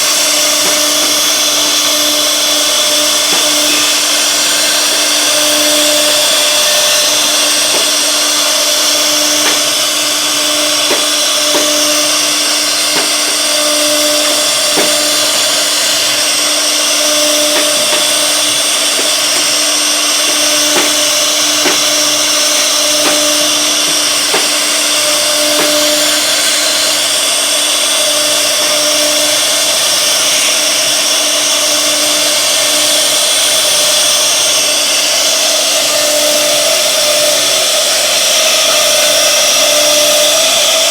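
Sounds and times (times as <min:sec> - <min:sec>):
cnc router cutting wood: 0:00.0 - 0:40.9.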